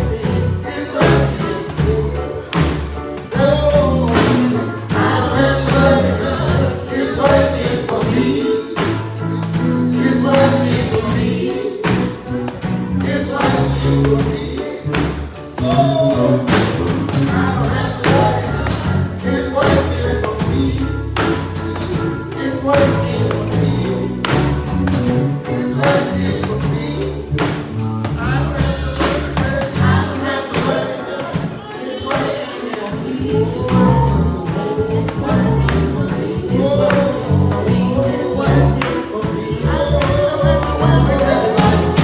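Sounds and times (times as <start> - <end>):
bass: 0.0 - 30.6, 33.2 - 42.0
keyboard chords: 0.0 - 42.0
people singing: 0.0 - 42.0
tambourine: 0.0 - 42.0.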